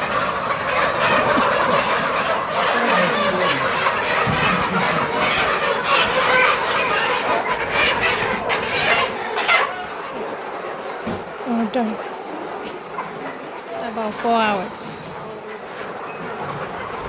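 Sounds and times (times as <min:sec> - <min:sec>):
flock of chickens calling: 0:00.0 - 0:17.0.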